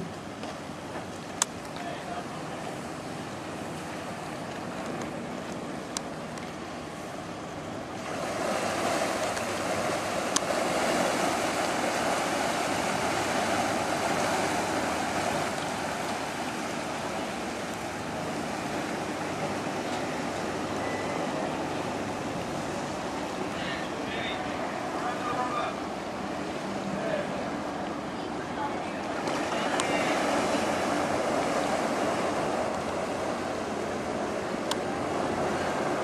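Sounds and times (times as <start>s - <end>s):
propellers churning water: 0.0s - 36.0s.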